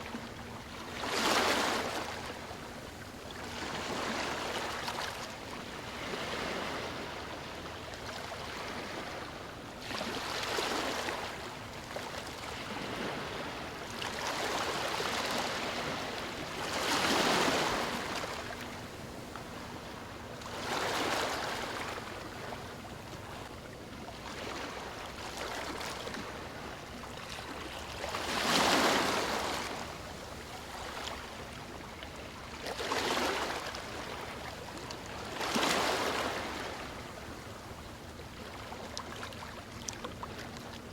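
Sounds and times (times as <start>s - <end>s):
ocean waves lapping on shore: 0.0s - 40.9s.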